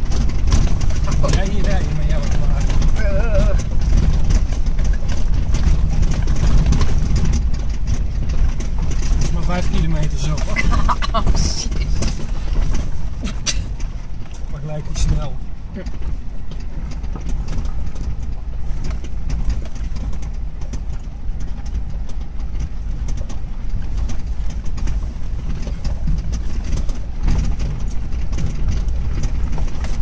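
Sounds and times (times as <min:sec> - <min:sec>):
engine and tyre rumble: 0:00.0 - 0:30.0
vehicle knocks and rattles: 0:00.0 - 0:30.0.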